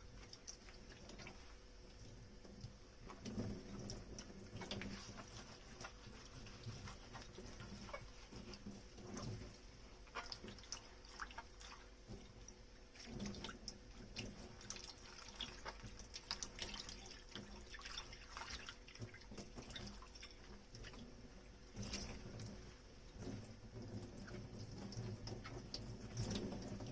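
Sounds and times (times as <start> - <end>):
water dripping and splashing: 0.0 - 26.9.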